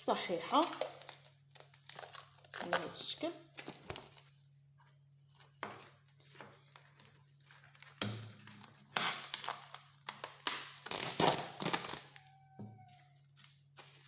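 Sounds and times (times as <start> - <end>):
crinkling and rustling handling: 0.0 - 14.0.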